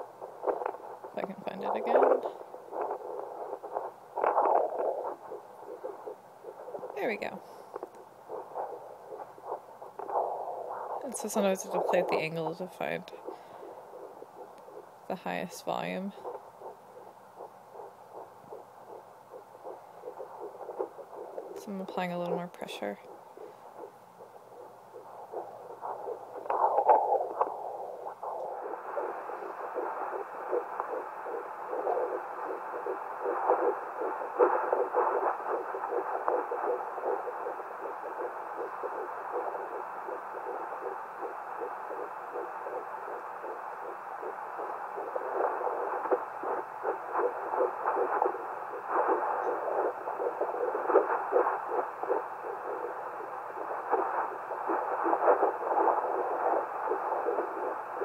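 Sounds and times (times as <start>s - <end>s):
fetal heartbeat whooshing pulse: 0.0s - 58.0s.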